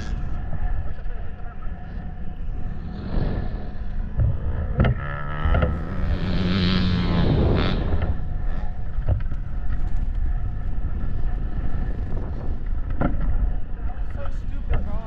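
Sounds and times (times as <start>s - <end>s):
motorcycle engine rumble: 0.0s - 15.0s
wind buffeting microphone: 0.0s - 15.0s.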